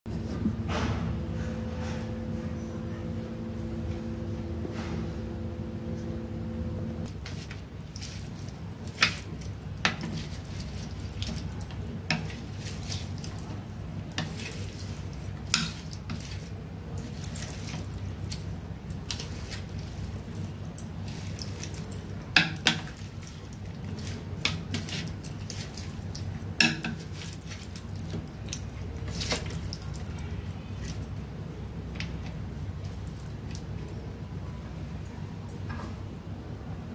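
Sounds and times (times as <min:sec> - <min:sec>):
low steady hum: 0:00.1 - 0:36.9.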